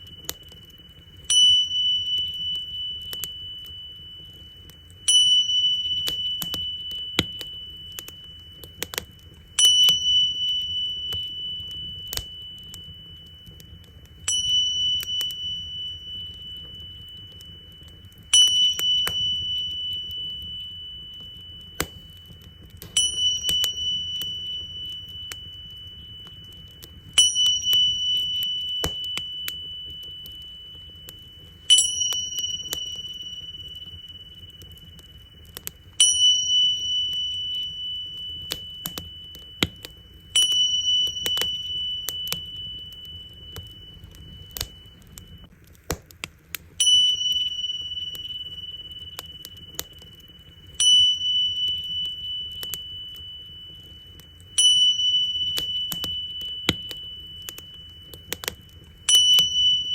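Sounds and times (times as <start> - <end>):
wood fire crackling: 0.0 - 59.9
hand cymbals ringing: 1.2 - 45.5, 46.8 - 59.9.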